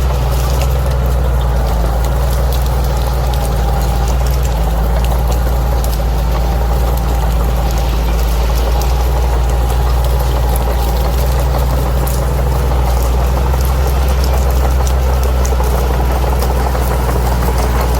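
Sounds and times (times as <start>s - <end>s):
bulldozer diesel engine droning: 0.0s - 17.9s.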